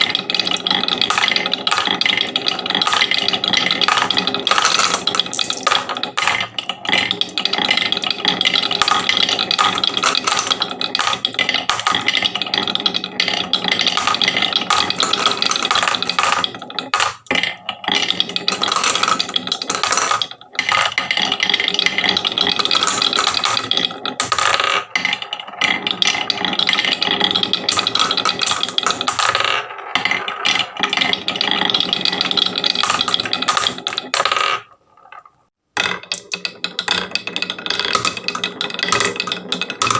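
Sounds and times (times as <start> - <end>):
marbles rattling down wooden track: 0.0 - 39.9.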